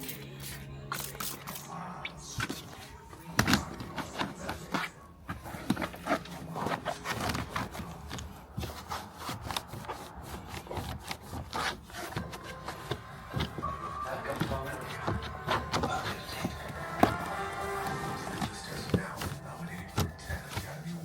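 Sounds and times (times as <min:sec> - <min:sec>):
hands rubbing and scraping trim: 0:00.0 - 0:21.0.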